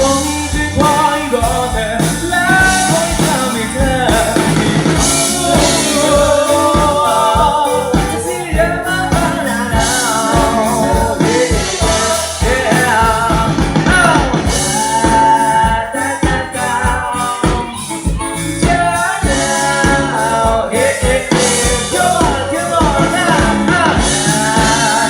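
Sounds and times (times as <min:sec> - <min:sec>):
live band playing: 0:00.0 - 0:25.0
sliding melodic lead line: 0:00.0 - 0:25.0
steady drum beat: 0:00.0 - 0:25.0.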